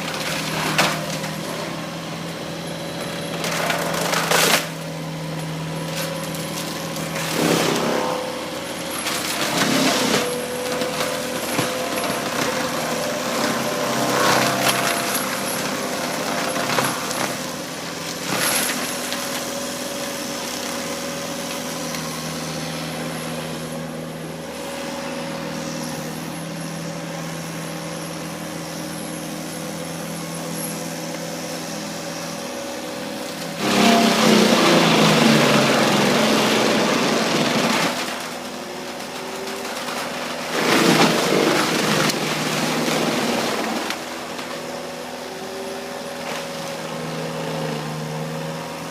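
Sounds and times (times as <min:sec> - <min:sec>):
mulching drum grinding material: 0:00.0 - 0:48.9
skid steer engine running: 0:00.0 - 0:48.9.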